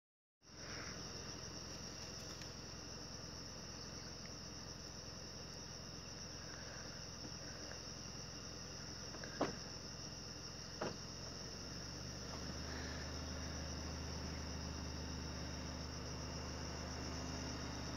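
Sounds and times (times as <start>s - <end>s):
high-pitched insect drone: 0.5s - 17.9s.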